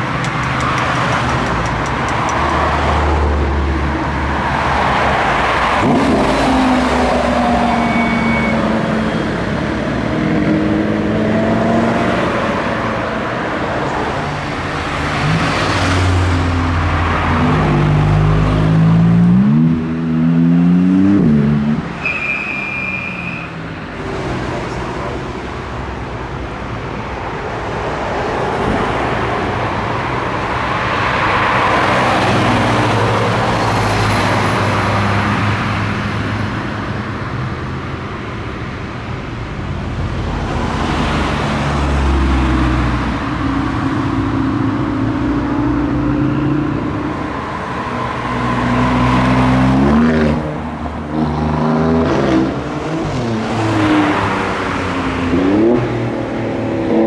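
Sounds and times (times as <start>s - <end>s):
car engine idling and revving: 0.0s - 22.0s, 23.8s - 57.0s.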